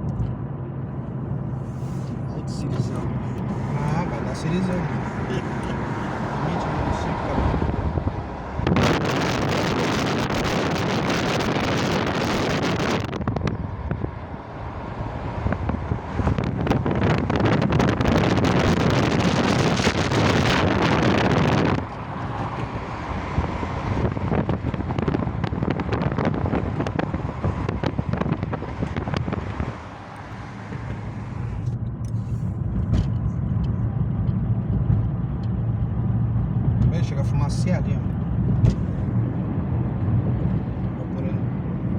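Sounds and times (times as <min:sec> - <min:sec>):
car road and engine noise: 0:00.0 - 0:41.9
wind buffeting microphone: 0:02.5 - 0:41.9.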